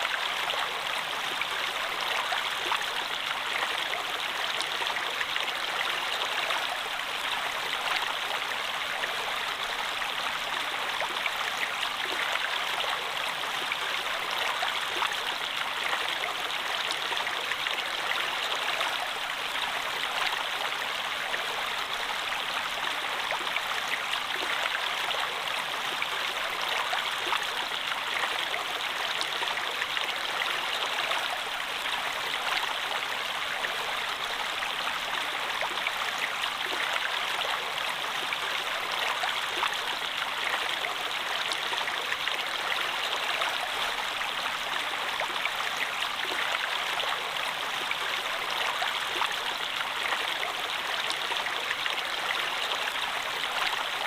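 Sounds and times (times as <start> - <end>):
stream flowing and splashing: 0.0 - 54.0.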